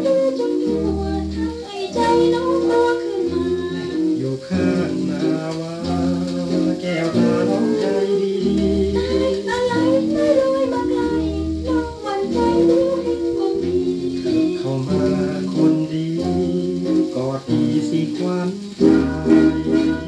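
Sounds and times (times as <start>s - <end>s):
old dance band song: 0.0s - 20.0s.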